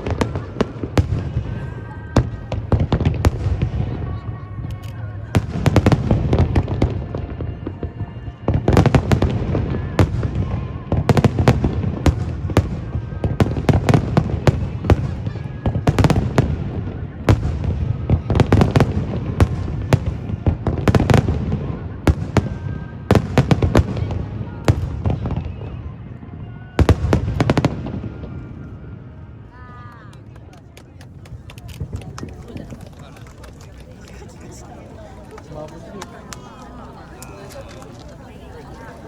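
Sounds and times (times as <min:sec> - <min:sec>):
fireworks bangs and crackling: 0:00.0 - 0:29.4, 0:30.2 - 0:39.0.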